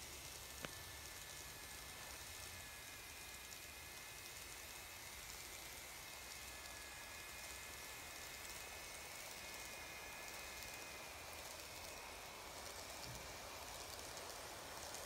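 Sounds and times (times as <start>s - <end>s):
model trains hissing: 0.0s - 15.0s.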